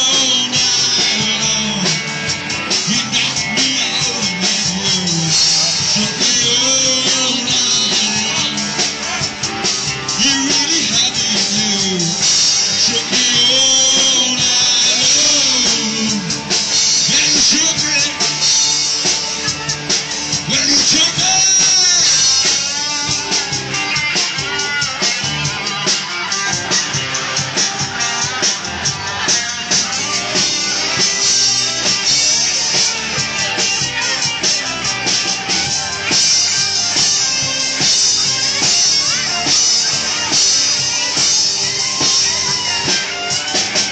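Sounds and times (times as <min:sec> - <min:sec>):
drum kit: 0:00.0 - 0:43.9
electric guitar: 0:00.0 - 0:43.9
live rock band playing: 0:00.0 - 0:43.9.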